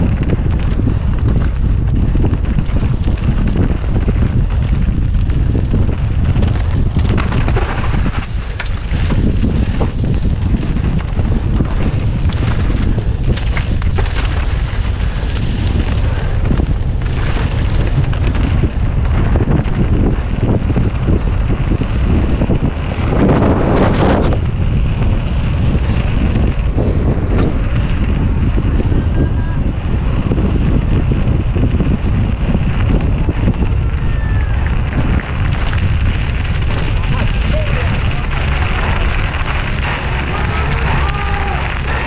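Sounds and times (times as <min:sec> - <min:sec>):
bike clattering on rough trail: 0:00.0 - 0:42.0
low rumble: 0:00.0 - 0:42.0
wind rushing over microphone: 0:00.0 - 0:42.0.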